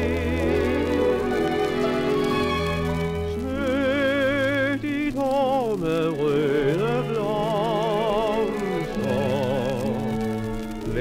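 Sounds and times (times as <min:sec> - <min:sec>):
old record with slow orchestral song: 0:00.0 - 0:11.0
record surface crackle: 0:00.0 - 0:11.0.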